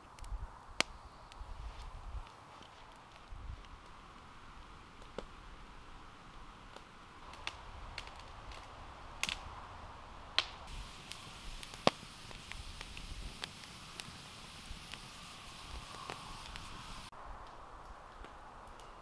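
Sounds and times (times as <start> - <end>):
campfire crackling and popping: 0.0 - 19.0
low fire hiss: 0.0 - 19.0.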